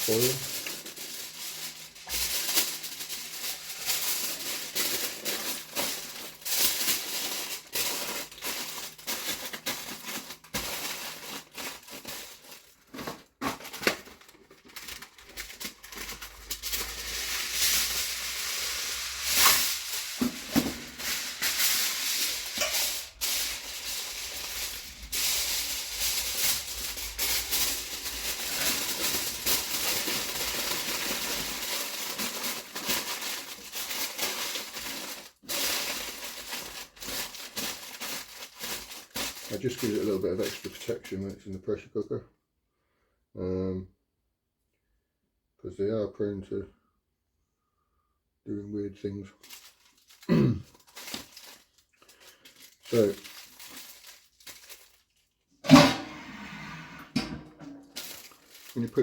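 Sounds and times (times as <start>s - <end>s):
aluminium foil crinkling: 0.0s - 41.5s, 49.3s - 55.7s, 57.7s - 59.0s.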